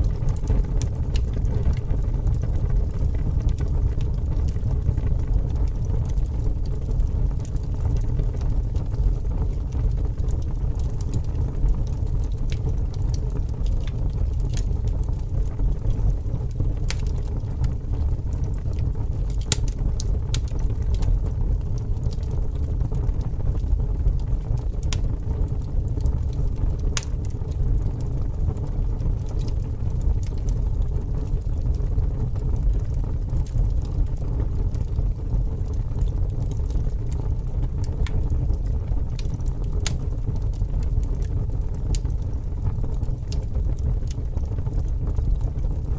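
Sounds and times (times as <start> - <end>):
bonfire rumble: 0.0 - 45.9
fire crackling and popping: 0.0 - 45.9.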